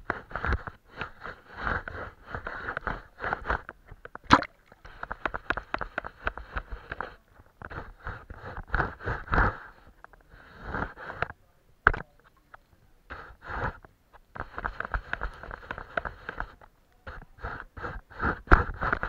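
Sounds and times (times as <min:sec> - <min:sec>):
paintbrush strokes on paper: 0:00.0 - 0:03.7, 0:04.8 - 0:11.3, 0:13.1 - 0:19.0.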